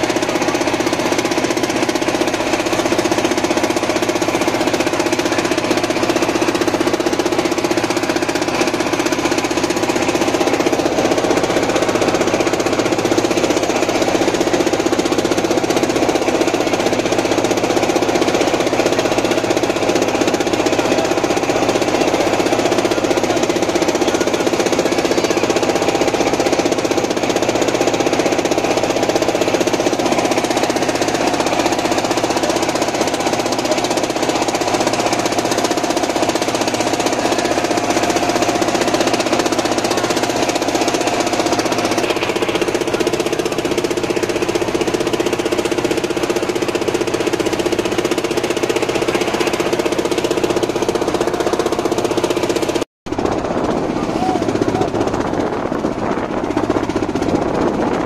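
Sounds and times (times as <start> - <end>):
boat engine knocking drone: 0.0 - 58.0.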